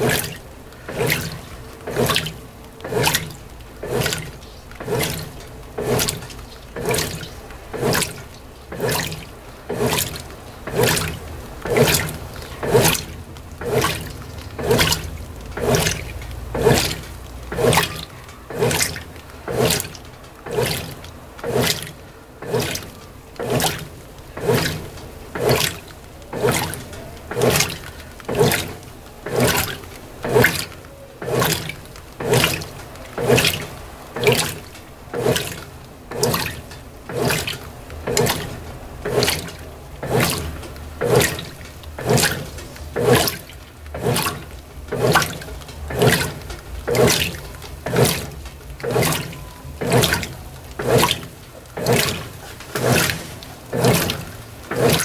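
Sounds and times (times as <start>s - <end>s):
washing machine sloshing water: 0.0s - 55.0s.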